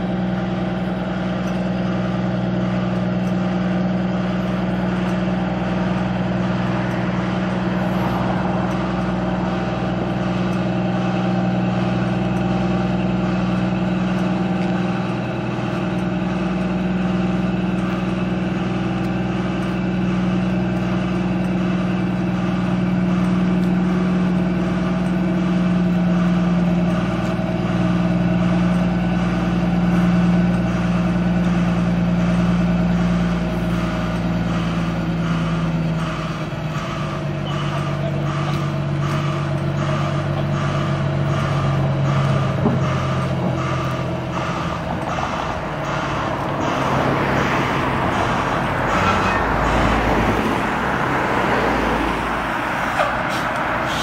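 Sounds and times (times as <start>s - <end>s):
reversing beeper: 0.0s - 54.0s
truck diesel engine running: 0.0s - 54.0s.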